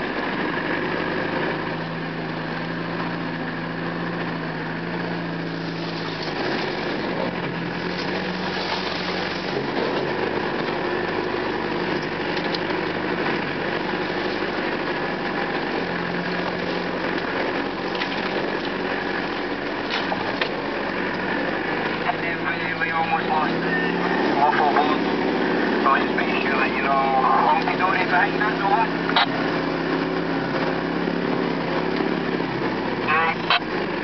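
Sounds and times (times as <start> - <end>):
vehicle engine at low revs: 0.0 - 34.0.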